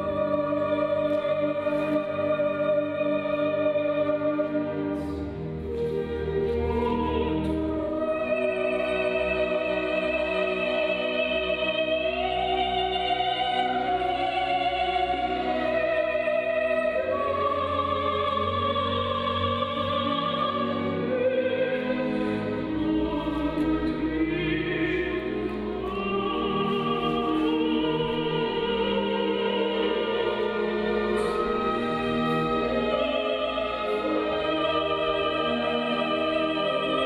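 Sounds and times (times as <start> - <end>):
orchestral accompaniment: 0.0 - 37.0
operatic voices singing: 6.6 - 37.0.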